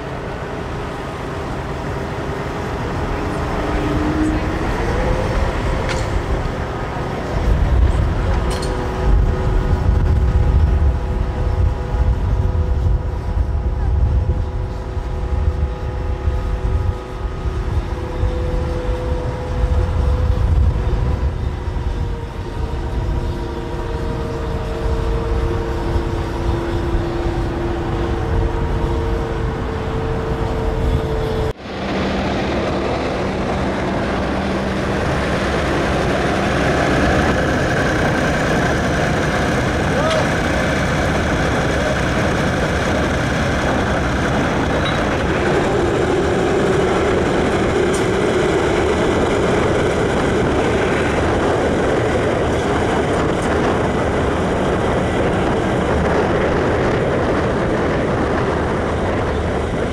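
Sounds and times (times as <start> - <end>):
hissing engine with low tone: 0.0 - 53.8
propeller plane engines rumbling: 0.0 - 59.9.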